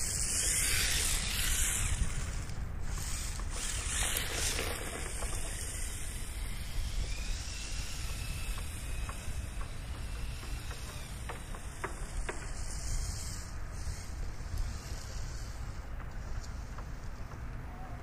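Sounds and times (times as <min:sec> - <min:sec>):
faint whine of toy car motor: 0:00.0 - 0:18.0
wind buffeting microphone: 0:00.0 - 0:18.0.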